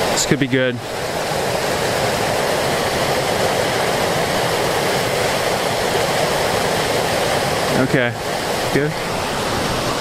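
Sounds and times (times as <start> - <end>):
waterfall roaring over boulders: 0.0 - 10.0.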